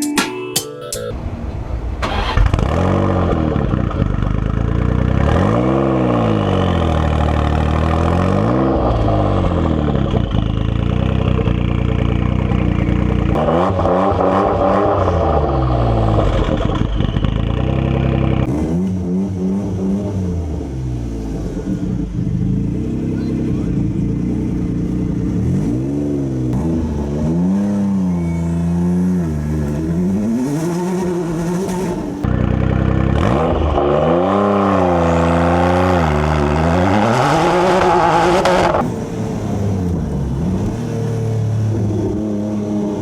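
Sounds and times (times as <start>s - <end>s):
car engine revving: 2.0s - 43.0s.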